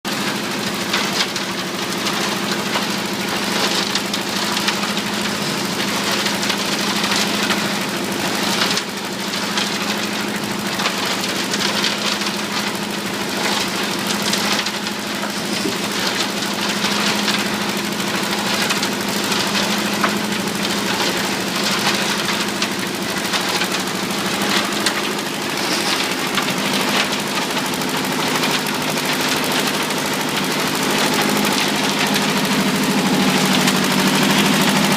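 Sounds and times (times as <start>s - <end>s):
machinery rattling clatter: 0.1s - 34.9s
mixer engine running: 0.1s - 34.9s.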